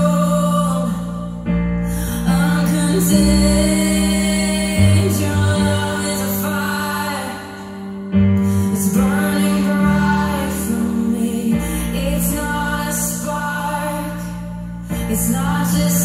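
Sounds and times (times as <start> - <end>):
slow song over loudspeakers: 0.0 - 16.0.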